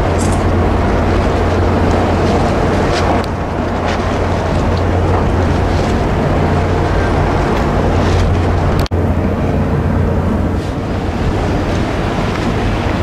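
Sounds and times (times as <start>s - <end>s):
steady low hum: 0.0s - 13.0s
wind buffeting the microphone: 0.0s - 13.0s.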